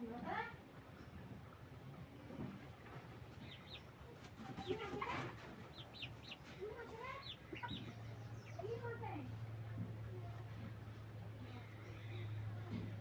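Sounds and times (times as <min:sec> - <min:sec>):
chickens clucking softly: 0:00.8 - 0:13.0.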